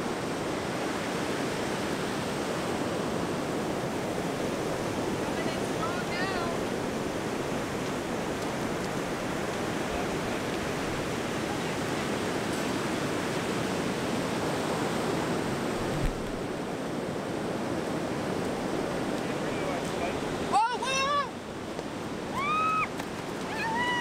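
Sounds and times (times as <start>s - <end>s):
ocean surf on sandy beach: 0.0s - 24.0s.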